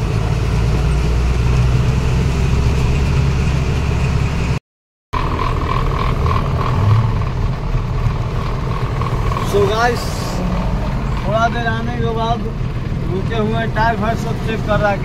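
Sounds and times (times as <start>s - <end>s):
truck diesel engine running: 0.0s - 4.6s, 5.2s - 15.0s.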